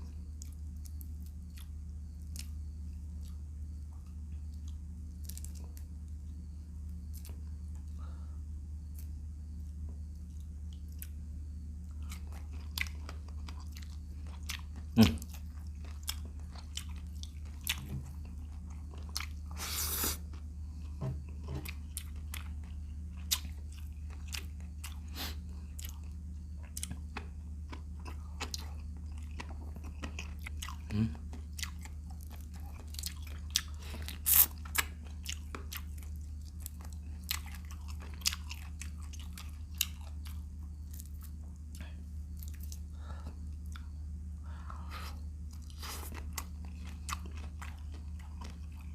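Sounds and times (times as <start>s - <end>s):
crunchy bites and chewing: 0.0s - 8.0s, 8.8s - 48.9s.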